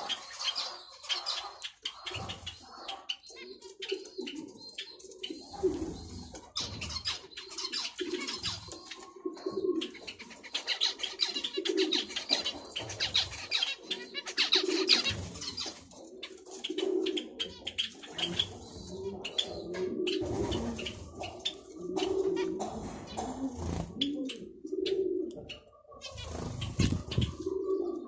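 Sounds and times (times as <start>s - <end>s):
doves cooing: 0.0s - 28.0s
finches chirping: 0.0s - 28.0s.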